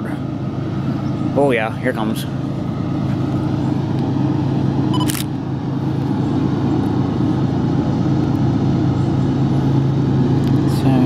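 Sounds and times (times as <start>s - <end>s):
diesel locomotives passing: 0.0s - 11.0s.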